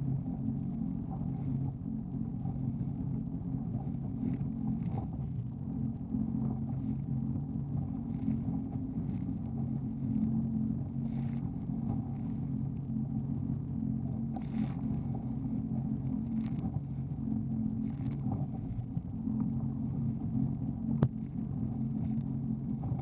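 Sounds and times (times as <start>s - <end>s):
jet ski engine running: 0.0s - 23.0s.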